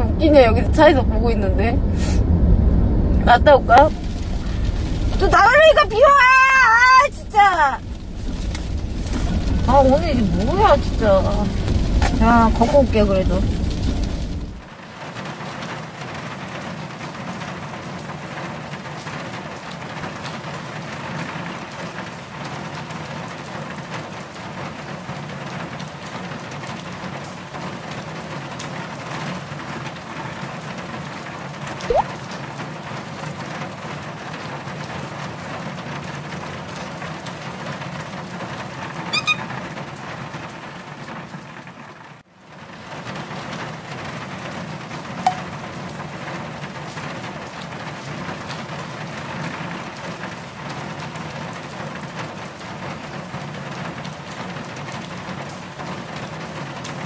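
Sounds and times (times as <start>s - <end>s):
rain on car roof: 0.0s - 57.0s.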